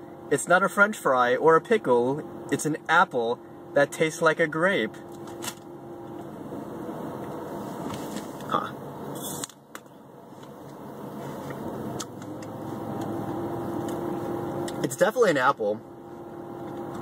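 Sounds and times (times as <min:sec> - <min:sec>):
car cabin hum: 0:00.0 - 0:17.0.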